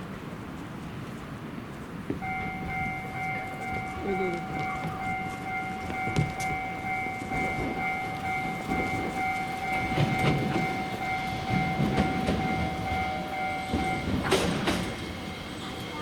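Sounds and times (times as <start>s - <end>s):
tram rumble: 0.0s - 16.0s.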